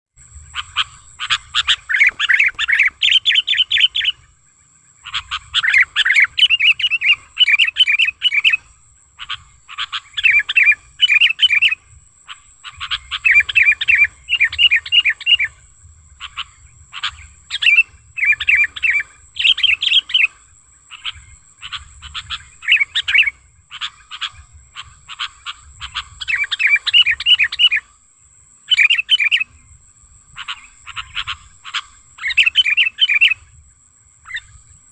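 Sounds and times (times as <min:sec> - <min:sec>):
bird singing repeated notes: 0:00.2 - 0:34.9.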